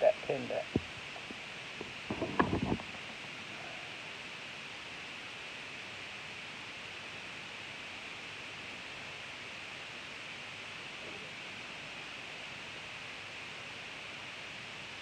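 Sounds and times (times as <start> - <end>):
steady hiss of room tone: 0.0 - 15.0.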